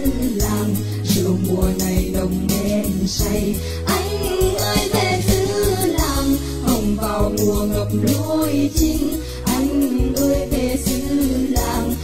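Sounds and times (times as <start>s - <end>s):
background music with bass and beat: 0.0s - 12.0s.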